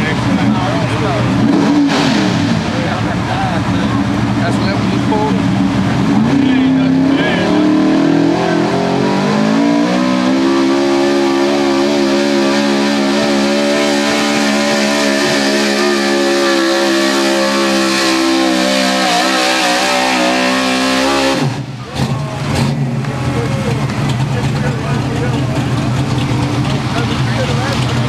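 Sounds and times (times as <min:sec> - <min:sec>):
truck engine at high revs: 0:00.0 - 0:28.0.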